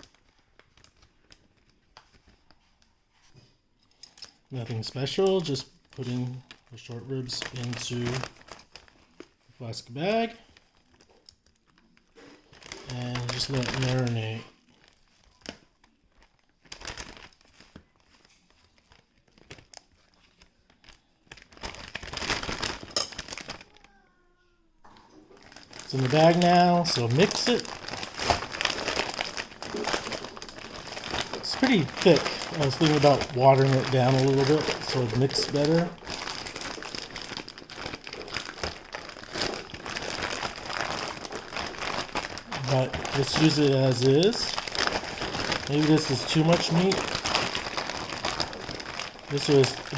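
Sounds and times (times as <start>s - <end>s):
plastic bag crinkling: 0.0s - 49.9s.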